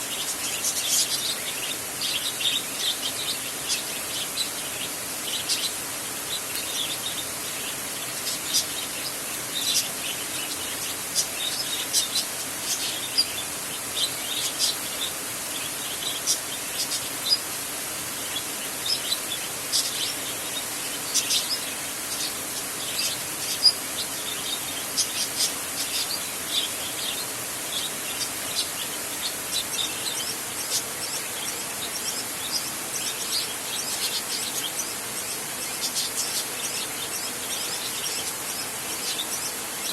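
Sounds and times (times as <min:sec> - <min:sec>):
birds chirping: 0:00.0 - 0:39.9
steady hiss: 0:00.0 - 0:39.9.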